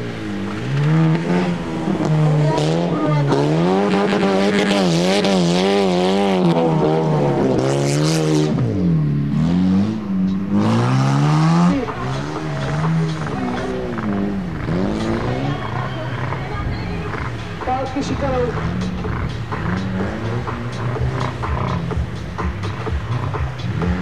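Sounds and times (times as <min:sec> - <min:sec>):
race vehicle engine revving: 0:00.0 - 0:24.0.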